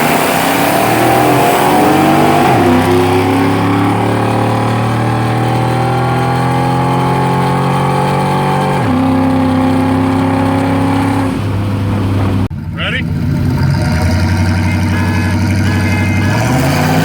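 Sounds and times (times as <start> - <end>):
car accelerating hard: 0.0 - 17.0.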